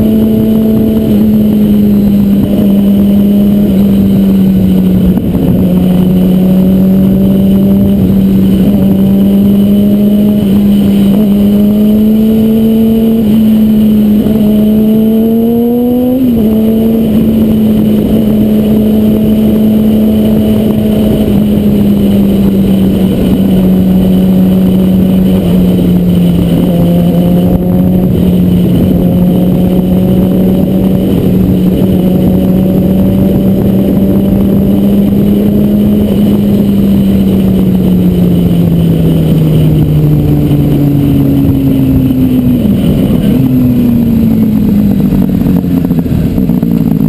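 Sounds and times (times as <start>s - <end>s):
motorcycle engine cruising: 0.0s - 47.0s
wind rush: 0.0s - 47.0s.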